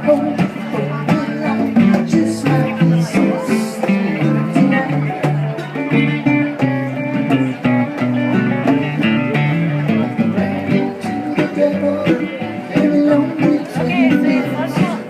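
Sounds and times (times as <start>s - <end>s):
guitar and plucked strings: 0.0s - 15.0s.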